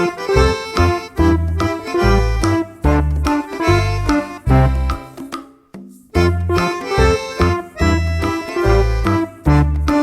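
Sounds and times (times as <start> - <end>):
bouncing bass line: 0.0 - 5.2, 6.2 - 10.0
accordion-like melody: 0.0 - 10.0.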